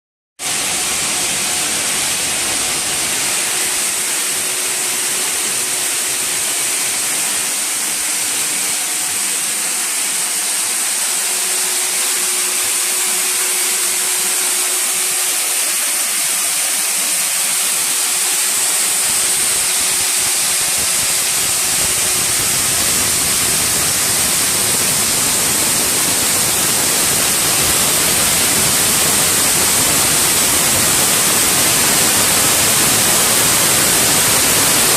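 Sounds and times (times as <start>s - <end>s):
washing machine hiss: 0.4s - 34.9s.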